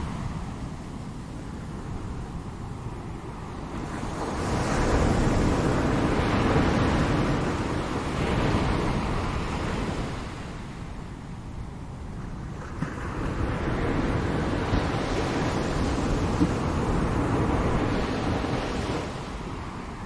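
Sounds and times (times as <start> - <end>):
ocean wave breaking and washing in: 0.0 - 20.0.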